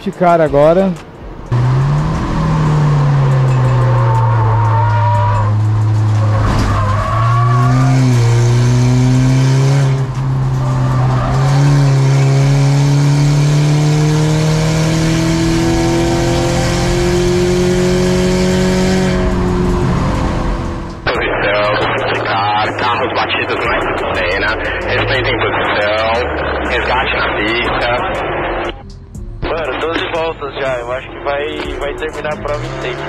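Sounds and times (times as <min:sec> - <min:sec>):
race car engine running: 0:01.5 - 0:33.0.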